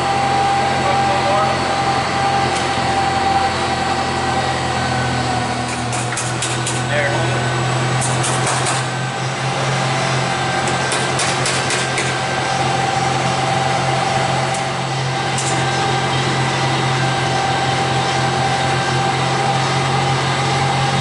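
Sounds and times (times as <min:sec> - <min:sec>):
low machine drone: 0:00.0 - 0:21.0.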